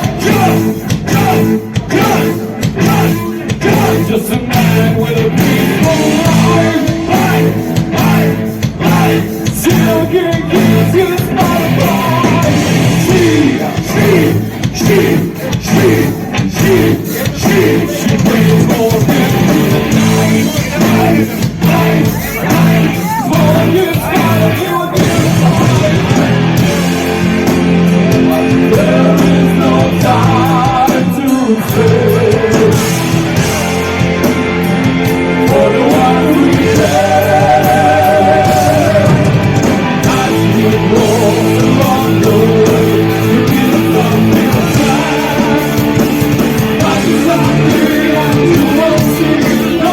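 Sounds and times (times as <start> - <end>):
heavy rock band playing live: 0.0 - 49.9
sung vocals: 0.0 - 49.9.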